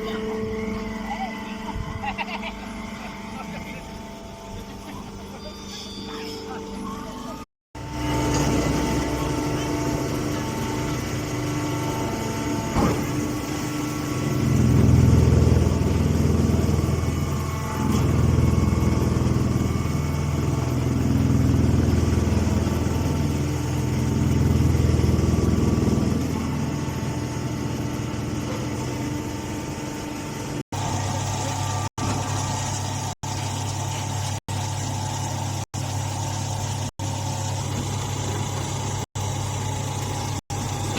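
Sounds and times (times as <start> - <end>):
engine-driven machinery droning: 0.0 - 40.9.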